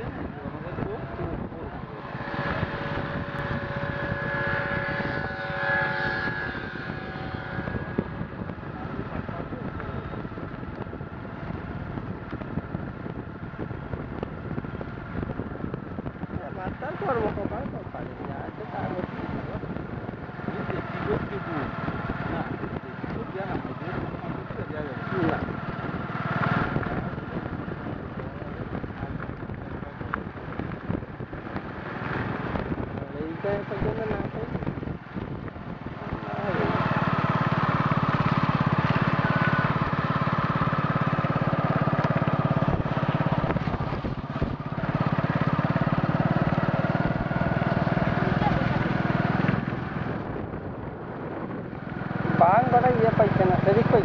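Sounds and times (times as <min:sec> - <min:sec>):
vehicle engine drone: 0:00.0 - 0:54.0
wind buffeting microphone: 0:00.0 - 0:54.0.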